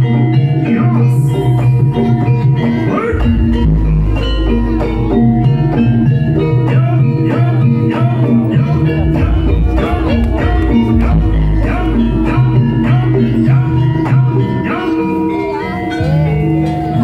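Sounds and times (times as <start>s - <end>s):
deep low tone: 0.0s - 14.7s
ensemble music with drums and gongs: 0.0s - 17.0s.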